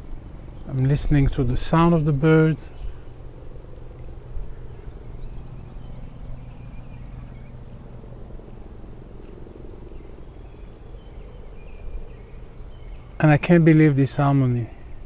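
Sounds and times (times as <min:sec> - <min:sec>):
faint birdsong: 0:00.0 - 0:15.0
steady low rumble: 0:00.0 - 0:15.0.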